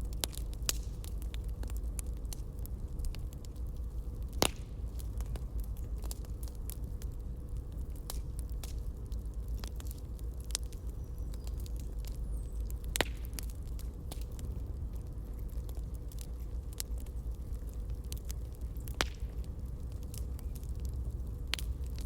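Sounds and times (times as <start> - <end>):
campfire crackling and popping: 0.0 - 22.0
low steady rumble: 0.0 - 22.0.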